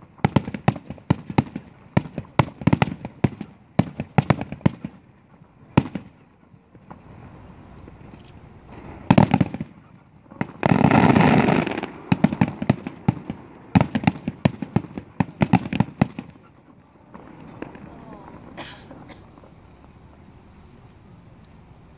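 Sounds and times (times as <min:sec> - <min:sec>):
fireworks bangs: 0:00.0 - 0:21.9
fireworks crackling: 0:00.0 - 0:21.9.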